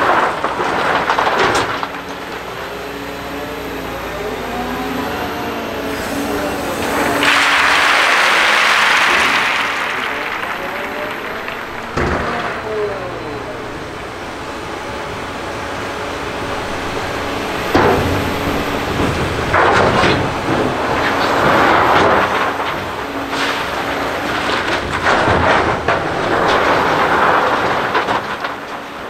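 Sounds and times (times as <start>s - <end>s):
rattling of stone and steel: 0.0s - 5.2s, 5.8s - 29.0s
material handler machine humming: 0.0s - 29.0s.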